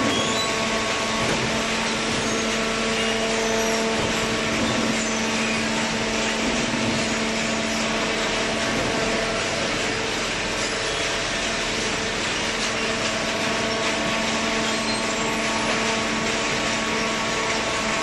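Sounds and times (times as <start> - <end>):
baler machine humming: 0.0 - 18.0.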